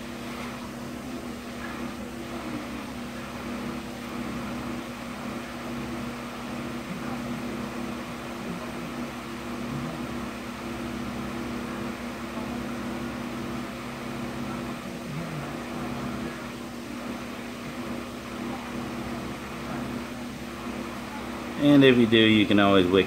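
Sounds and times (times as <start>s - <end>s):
soldering gun humming: 0.0s - 23.0s.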